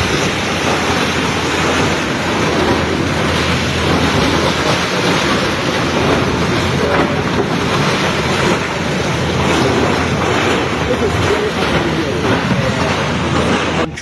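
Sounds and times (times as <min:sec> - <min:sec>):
excavator engine and site noise: 0:00.0 - 0:14.0.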